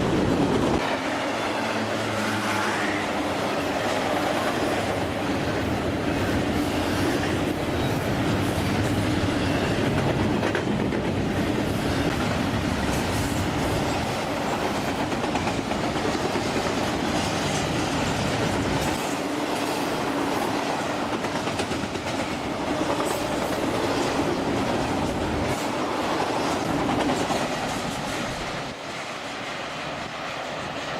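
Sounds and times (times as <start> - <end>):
train cars rolling past: 0.0 - 30.9.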